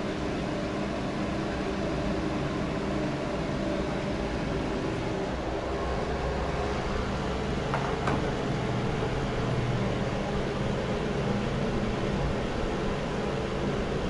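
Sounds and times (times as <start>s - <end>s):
fan heater air rushing: 0.0s - 14.0s
low motor hum: 0.0s - 14.0s.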